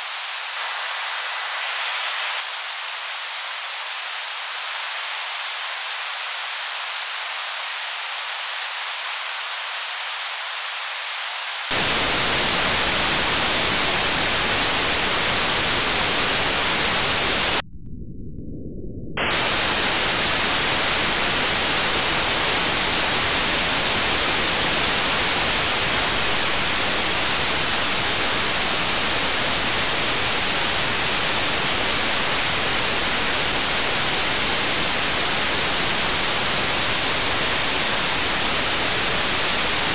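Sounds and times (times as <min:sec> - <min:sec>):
radio static hiss: 0:00.0 - 0:17.6, 0:19.2 - 0:39.9.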